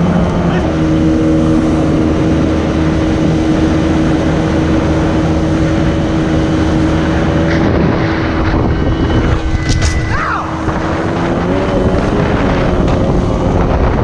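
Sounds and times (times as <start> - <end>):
boat jet motor running: 0.0 - 14.0
water rushing past hull: 0.0 - 14.0.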